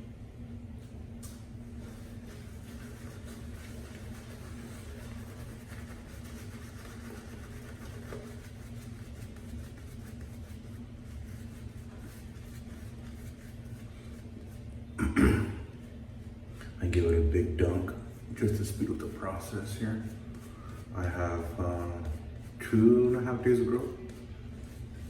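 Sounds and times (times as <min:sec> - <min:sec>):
low machinery hum: 0:00.0 - 0:25.0.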